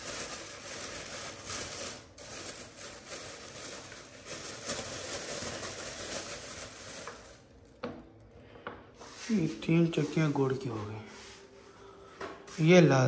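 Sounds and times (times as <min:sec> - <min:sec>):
plastic bag rustling: 0:00.0 - 0:11.6.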